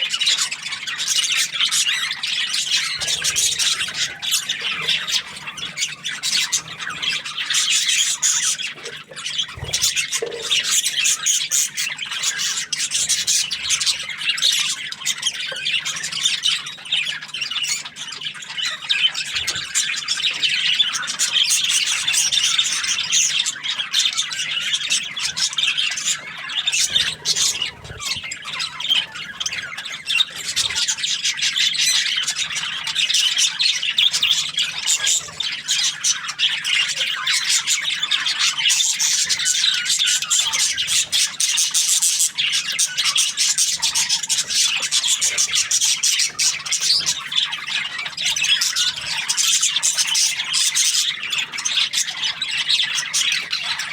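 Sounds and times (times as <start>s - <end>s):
budgies chirping and chattering: 0.0s - 53.9s.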